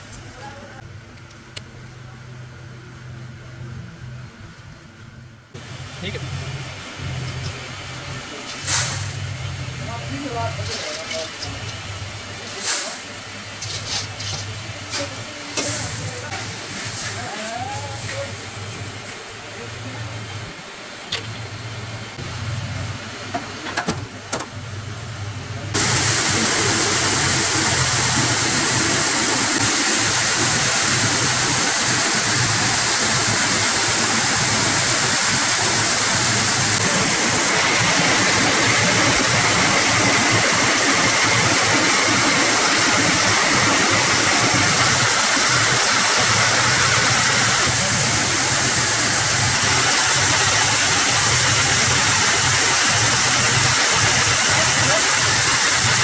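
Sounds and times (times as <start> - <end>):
loud steady hissing rush: 4.9 - 56.0.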